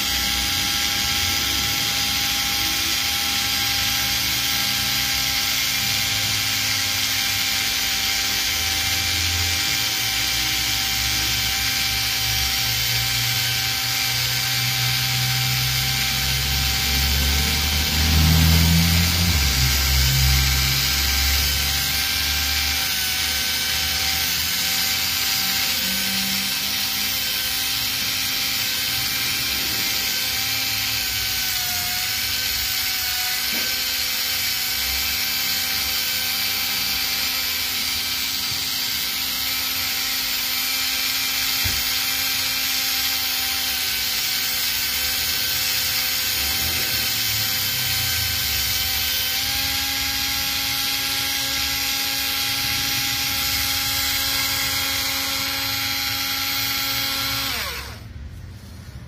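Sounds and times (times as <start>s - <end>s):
small electric motor whining: 0.0s - 59.0s.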